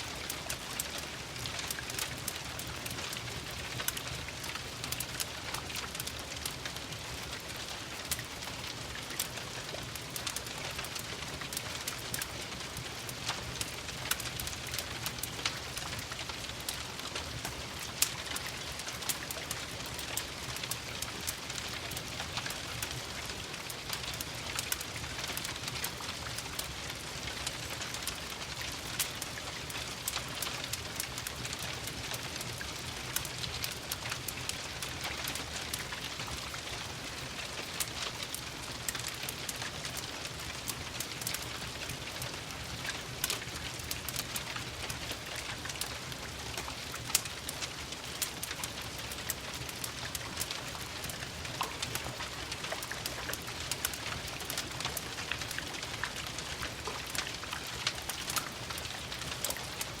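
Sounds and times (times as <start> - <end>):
steady rain: 0.0 - 60.0
wood fire crackling: 0.0 - 60.0.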